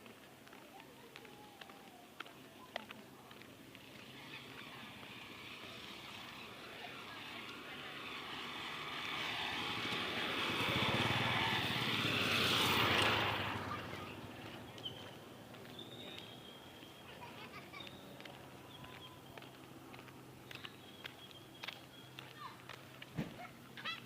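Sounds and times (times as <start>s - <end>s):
vehicle engine passing by: 3.7s - 23.4s.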